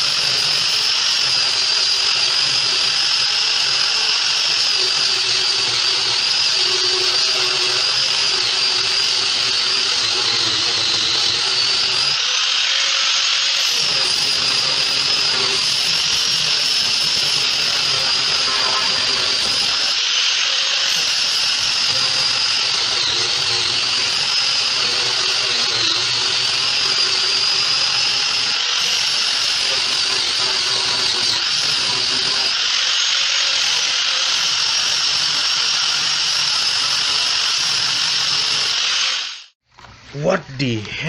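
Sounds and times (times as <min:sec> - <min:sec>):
power tool motor whine: 0:00.0 - 0:39.6.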